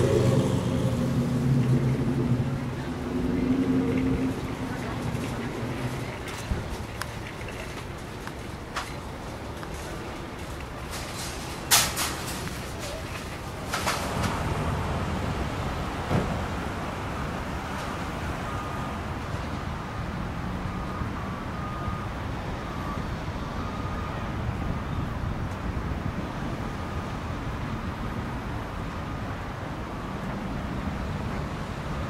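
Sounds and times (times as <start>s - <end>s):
traffic rumble: 0.0s - 32.0s.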